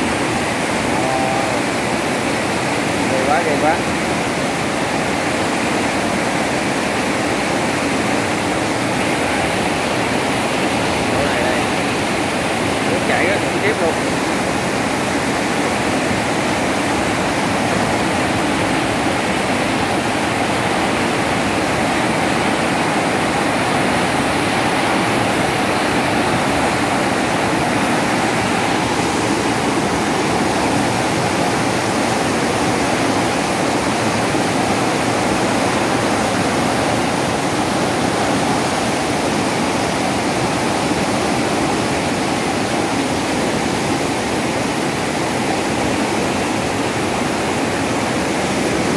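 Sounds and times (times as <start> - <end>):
water rushing through sluice gate: 0.0 - 48.9.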